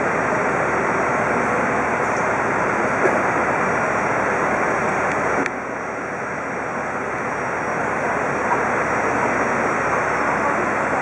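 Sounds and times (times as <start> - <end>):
jet engine noise: 0.0 - 11.0.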